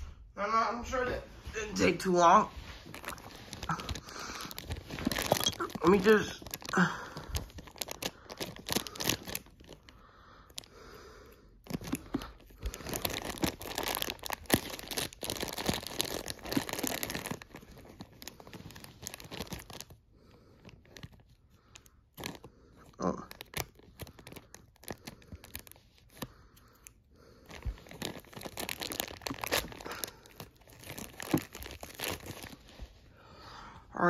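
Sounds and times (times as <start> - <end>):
plastic bag crinkling: 2.5 - 10.8, 11.5 - 33.0.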